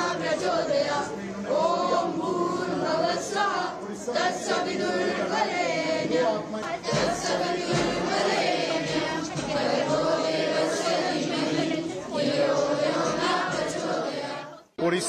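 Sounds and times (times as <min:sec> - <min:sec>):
children singing a prayer: 0:00.0 - 0:14.7.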